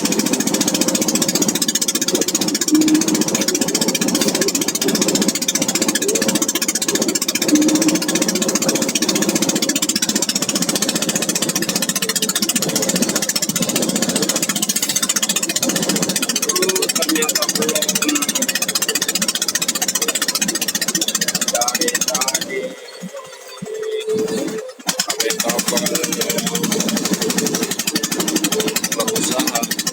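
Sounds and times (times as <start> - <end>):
boat engine clattering: 0.0 - 29.9.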